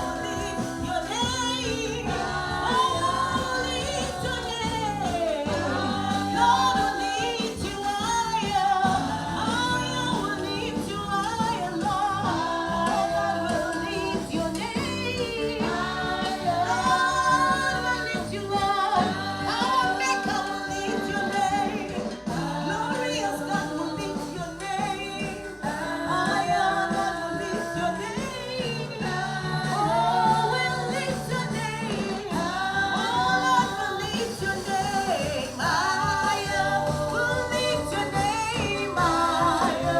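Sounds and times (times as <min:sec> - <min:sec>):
gospel singing: 0:00.0 - 0:39.9
instrumental accompaniment with bass: 0:00.0 - 0:39.9.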